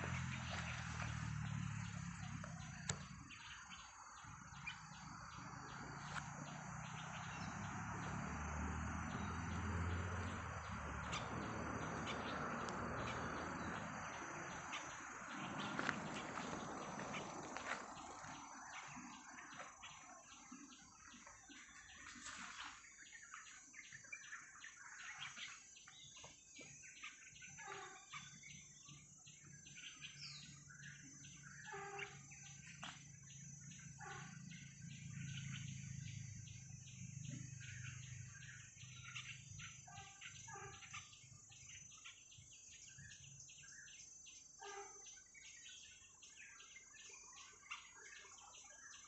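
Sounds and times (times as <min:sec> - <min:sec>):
faint birds chirping: 0:00.0 - 0:49.0.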